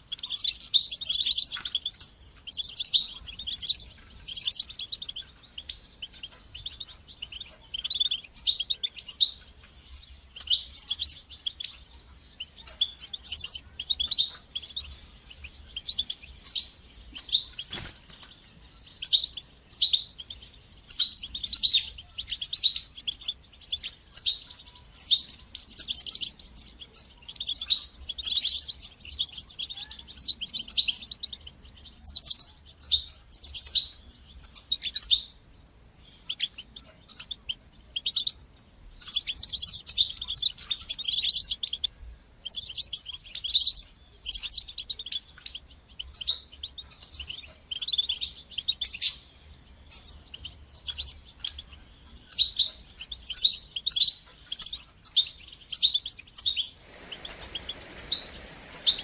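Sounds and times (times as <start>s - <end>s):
finch twittering chirps and trills: 0.0s - 59.0s.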